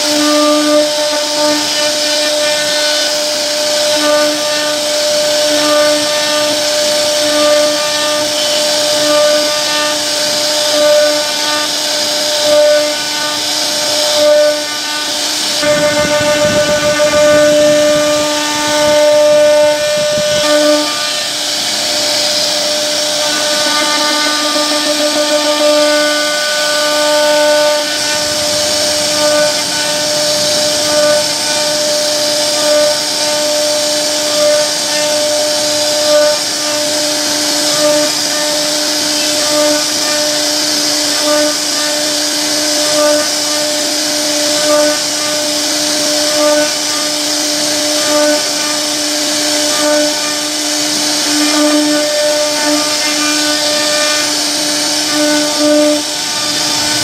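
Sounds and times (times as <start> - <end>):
router bit carving wood: 0.0 - 57.0
router spindle whining: 0.0 - 57.0.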